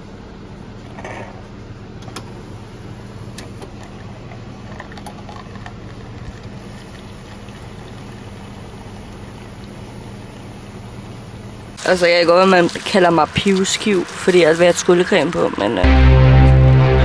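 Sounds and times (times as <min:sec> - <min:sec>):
coffee machine pump humming: 0:00.0 - 0:15.9.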